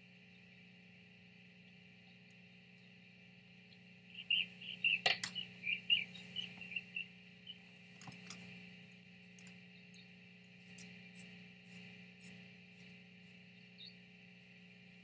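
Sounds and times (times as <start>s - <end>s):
steady low hum: 0.0s - 15.0s
bird chirping: 1.6s - 8.6s, 9.3s - 14.6s.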